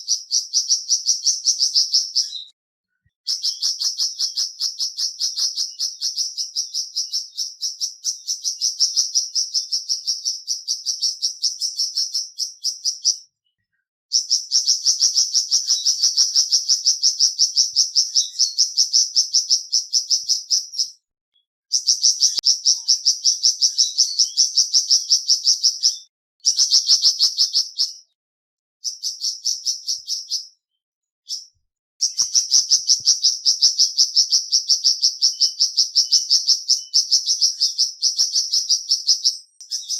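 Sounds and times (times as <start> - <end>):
songbird chirping trill: 0.0 - 28.2, 28.8 - 39.9.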